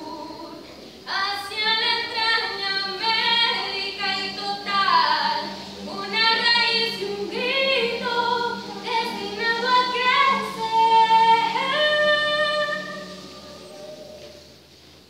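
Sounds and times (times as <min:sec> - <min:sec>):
female voices singing: 0:00.0 - 0:14.2.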